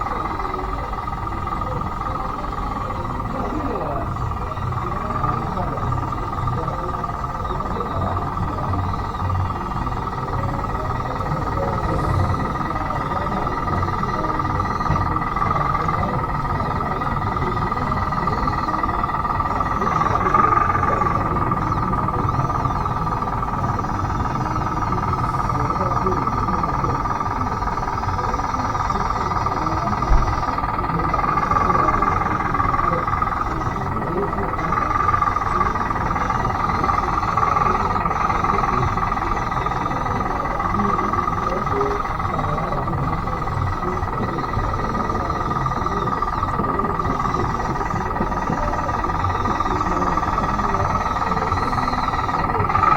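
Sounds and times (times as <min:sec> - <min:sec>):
toy bulldozer motor whine: 0:00.0 - 0:52.9.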